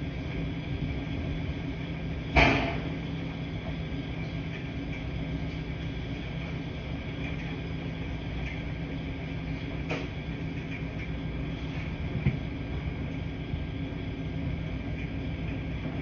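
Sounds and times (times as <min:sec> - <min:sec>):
washing machines humming: 0:00.0 - 0:16.0.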